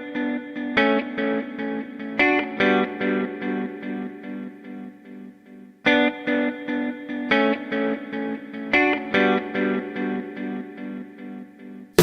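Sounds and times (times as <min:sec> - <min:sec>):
electric guitar plucked notes: 0:00.0 - 0:12.0.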